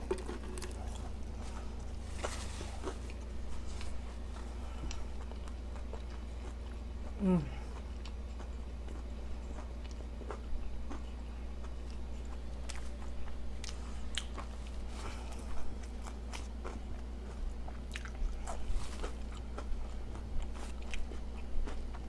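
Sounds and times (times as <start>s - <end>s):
person chewing food: 0.0s - 22.0s
steady low hum: 0.0s - 22.0s.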